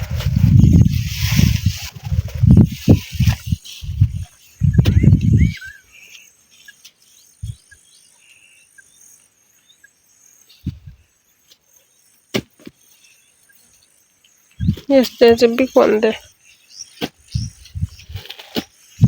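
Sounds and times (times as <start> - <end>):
birds chirping: 0.0 - 11.4, 13.1 - 19.0.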